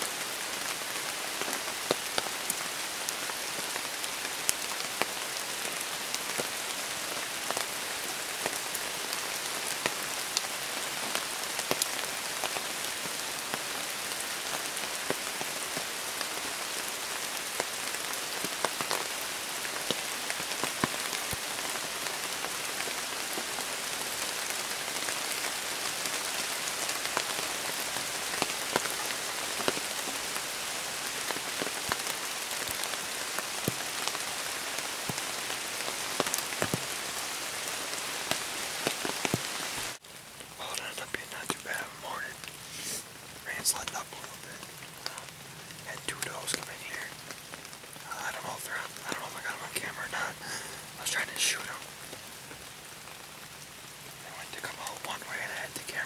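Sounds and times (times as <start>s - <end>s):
raindrops ticking on umbrella: 0.0s - 56.0s
steady rain falling: 0.0s - 56.0s.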